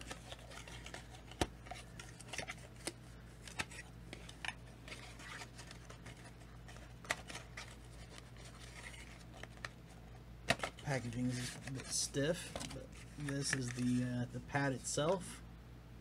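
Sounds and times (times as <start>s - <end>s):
cardboard rustling: 0.0s - 14.2s.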